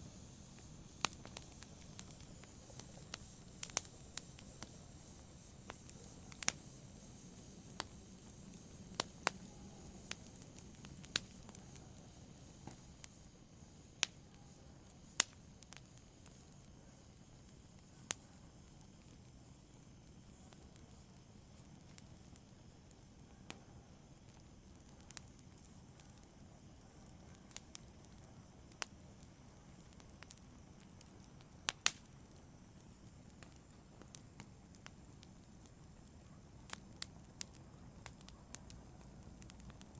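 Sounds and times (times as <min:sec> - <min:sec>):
fire crackling and popping: 0:00.0 - 0:39.9
soft steady hiss: 0:00.0 - 0:39.9.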